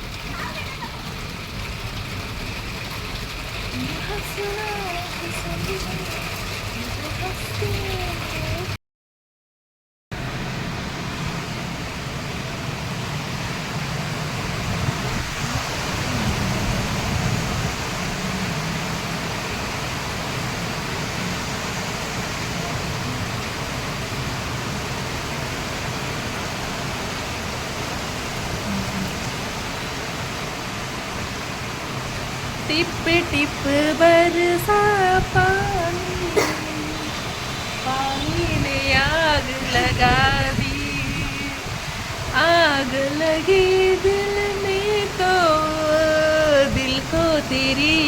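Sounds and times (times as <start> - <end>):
heavy rain falling: 0.0 - 8.8, 10.1 - 48.0.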